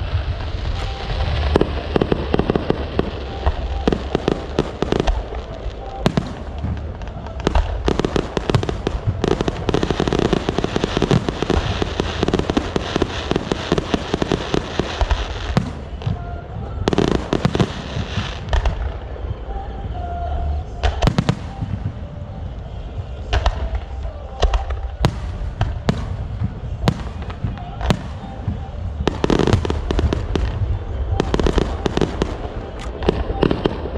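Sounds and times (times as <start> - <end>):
firecrackers crackling and banging: 0.0 - 33.9.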